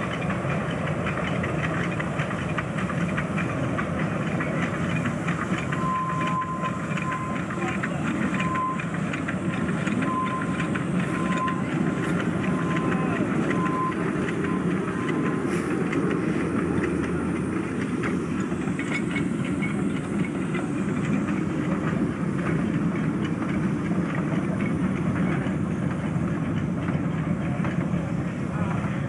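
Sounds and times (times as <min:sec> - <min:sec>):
steam train rolling past: 0:00.0 - 0:29.0
wheels clicking on rail: 0:00.0 - 0:29.0.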